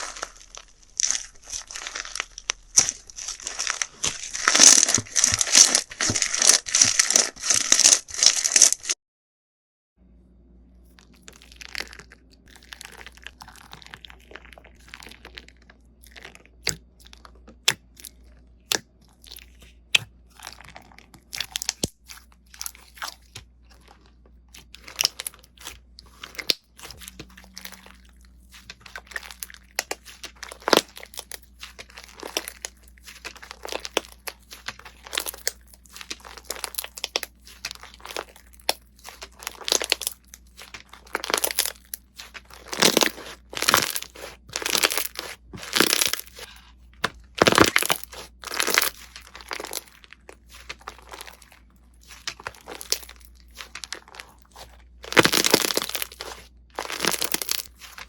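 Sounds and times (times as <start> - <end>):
slime crackling and popping: 0.0 - 9.0, 11.1 - 23.4, 24.5 - 46.6, 47.2 - 58.0.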